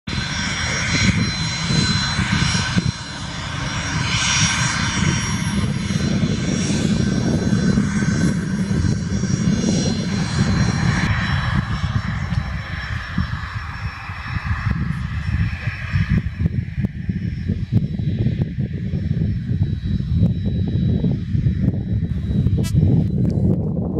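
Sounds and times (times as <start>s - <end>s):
jet engines running: 0.1s - 23.9s.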